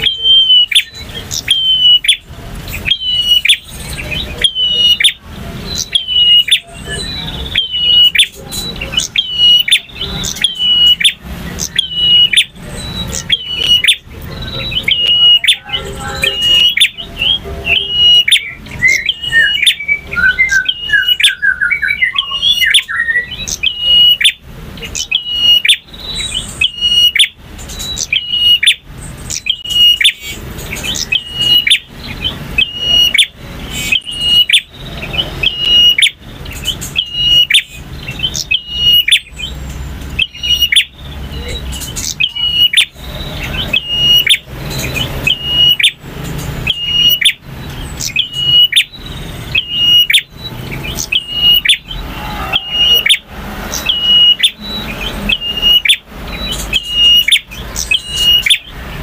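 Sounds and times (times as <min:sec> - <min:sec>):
bird singing sharp phrases: 0:00.0 - 0:59.0.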